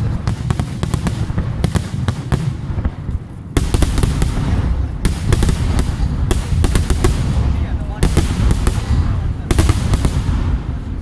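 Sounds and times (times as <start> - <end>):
fireworks cracking and crackling: 0.0 - 11.0
low rumble of shell bursts: 0.0 - 11.0.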